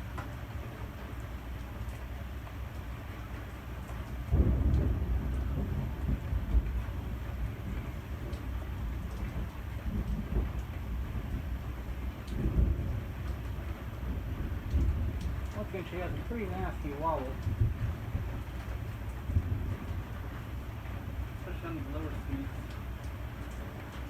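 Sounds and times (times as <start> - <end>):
ceiling fan rumbling: 0.0 - 24.0.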